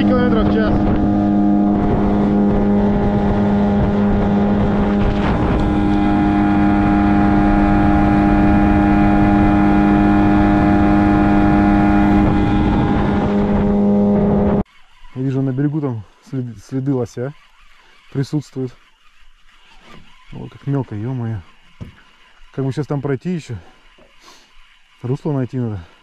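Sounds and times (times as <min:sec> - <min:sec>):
outboard motor droning: 0:00.0 - 0:26.0.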